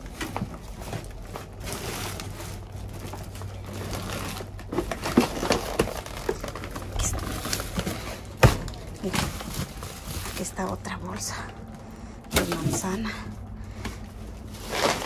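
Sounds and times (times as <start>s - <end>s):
plastic bags rustling and crinkling: 0.0s - 15.0s
steady low hum: 0.0s - 15.0s.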